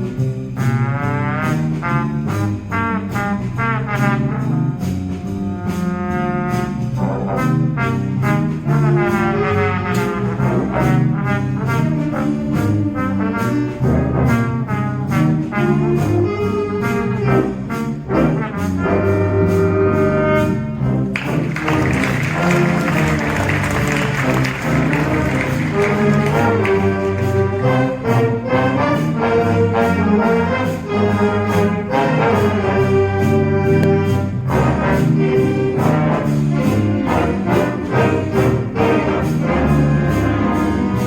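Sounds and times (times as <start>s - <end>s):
concert band playing jazz: 0.0s - 41.0s.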